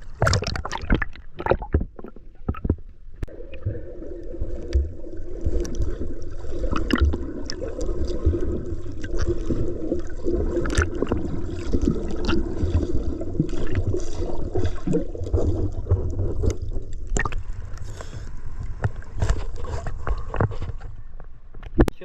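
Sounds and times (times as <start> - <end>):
seawater sloshing and splashing: 0.0 - 2.7, 3.3 - 20.9.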